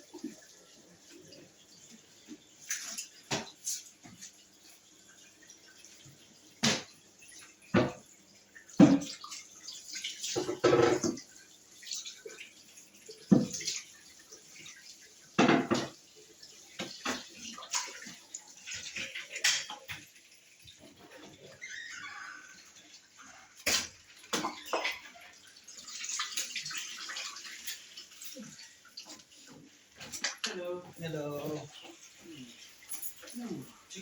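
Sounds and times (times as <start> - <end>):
water splashing: 6.6 - 34.0.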